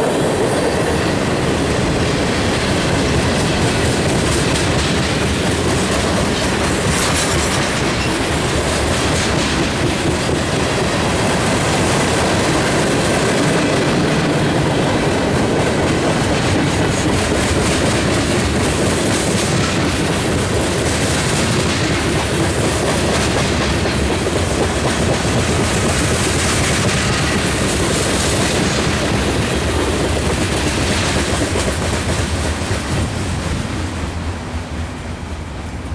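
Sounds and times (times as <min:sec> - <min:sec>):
wheels clicking over rail joints: 0:00.0 - 0:34.3
freight train rumbling past: 0:00.0 - 0:35.9.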